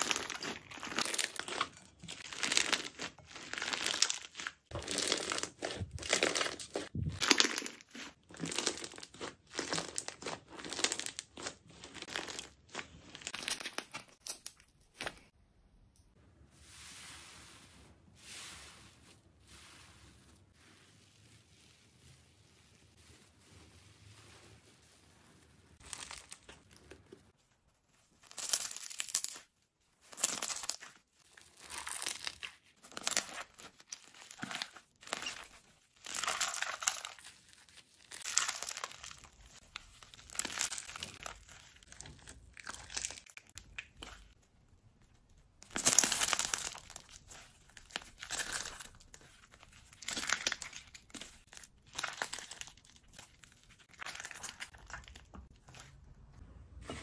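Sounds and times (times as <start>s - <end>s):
jelly slime squished by hand: 0.0s - 15.4s, 18.8s - 57.0s.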